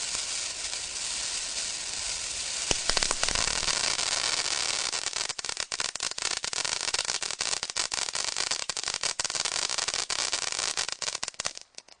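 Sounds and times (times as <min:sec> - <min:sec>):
firework fountain hissing: 0:00.0 - 0:11.6.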